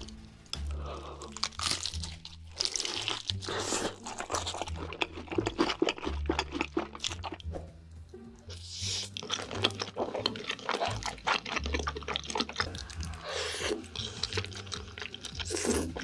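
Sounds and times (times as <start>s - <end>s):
crunching fried chicken: 0.6s - 7.4s, 8.8s - 16.0s.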